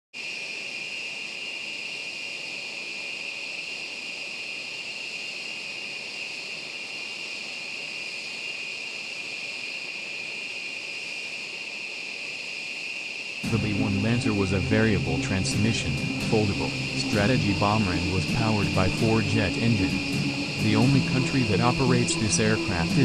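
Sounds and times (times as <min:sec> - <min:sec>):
jet engines whining: 0:00.2 - 0:23.0.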